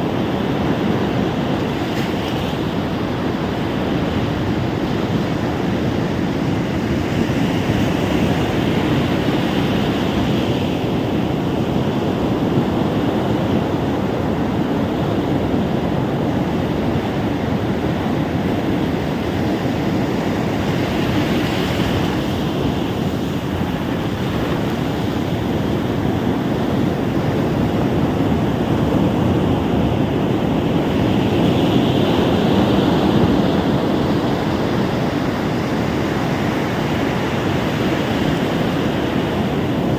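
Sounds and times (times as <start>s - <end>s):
ocean waves on shore: 0.0s - 39.9s.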